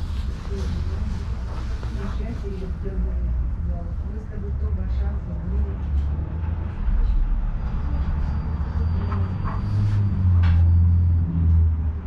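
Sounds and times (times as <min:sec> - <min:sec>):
low hum inside tram: 0:00.0 - 0:12.0
street traffic passing: 0:00.0 - 0:12.0.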